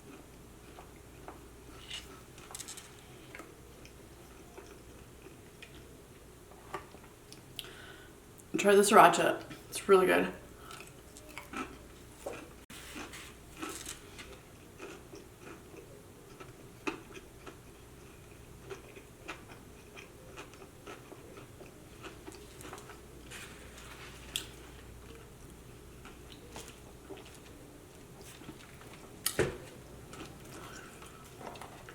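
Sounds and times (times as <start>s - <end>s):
person chewing food: 0.0s - 5.9s, 10.6s - 31.9s.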